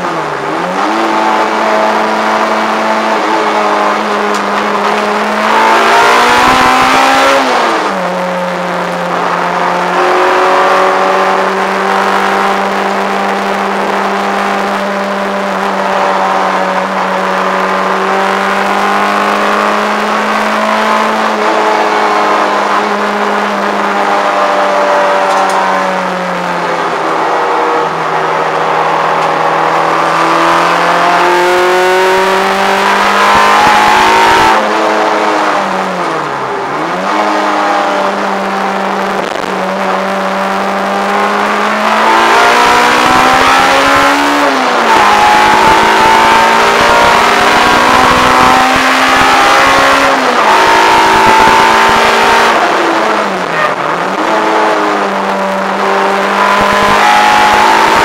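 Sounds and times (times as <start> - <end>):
car engine revving in cabin: 0.0 - 58.0.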